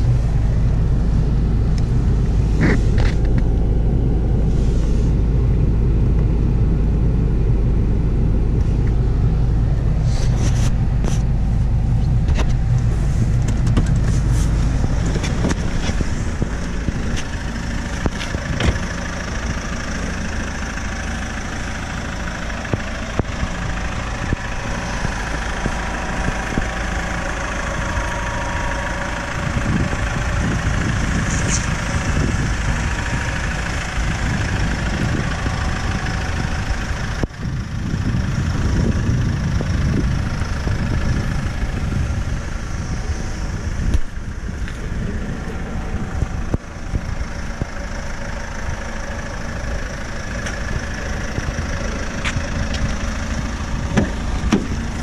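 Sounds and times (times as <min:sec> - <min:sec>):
car engine idling: 0:00.0 - 0:55.0
wind buffeting microphone: 0:08.6 - 0:55.0.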